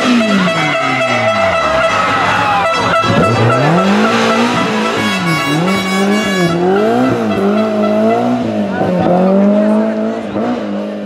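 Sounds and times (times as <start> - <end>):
rally car engine revving hard: 0.0 - 11.0.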